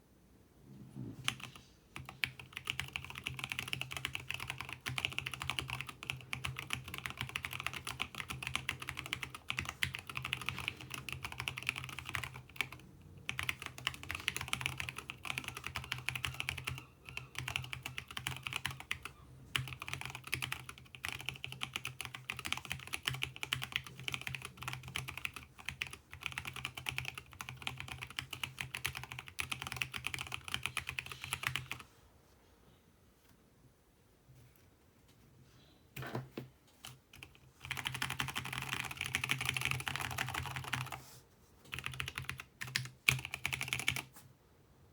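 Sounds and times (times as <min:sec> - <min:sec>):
fast typing on mechanical keyboard: 0:01.3 - 0:31.8, 0:36.8 - 0:41.0, 0:41.7 - 0:44.1.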